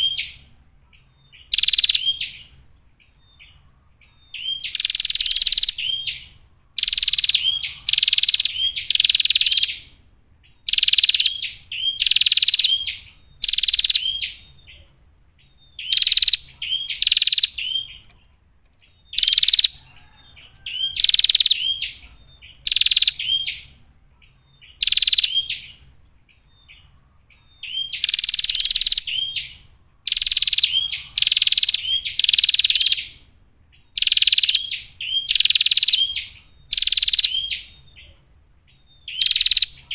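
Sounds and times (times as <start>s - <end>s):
songbird giving buzzy calls: 0.0s - 39.9s.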